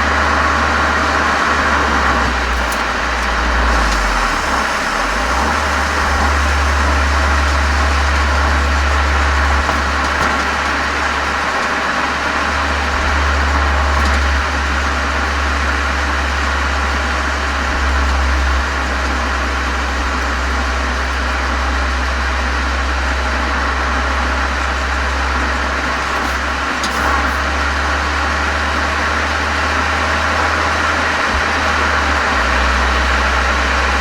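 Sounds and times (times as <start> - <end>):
constant wash of noise: 0.0 - 34.0
deep exhaust drone: 0.0 - 34.0.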